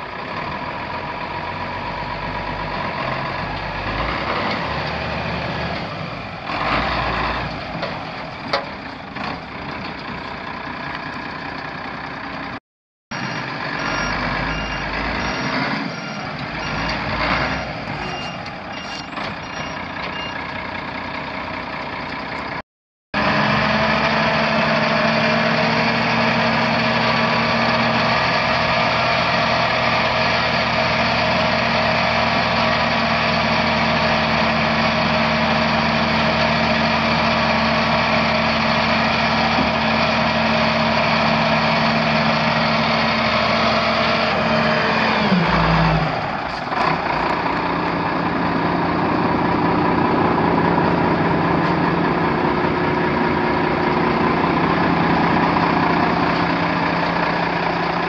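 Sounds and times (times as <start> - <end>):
diesel truck engine idling: 0.0 - 4.2, 13.3 - 22.6, 23.3 - 58.0.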